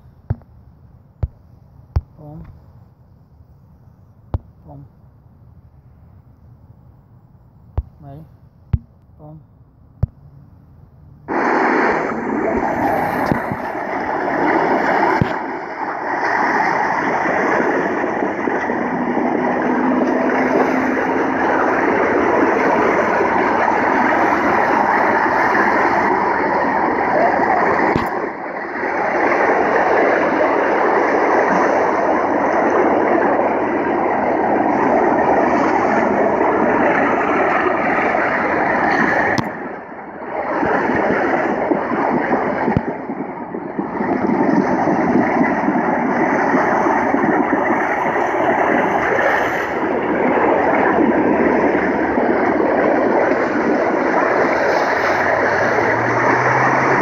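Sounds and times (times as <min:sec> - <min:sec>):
steady rushing water noise: 0:00.0 - 0:03.7, 0:04.3 - 0:57.0.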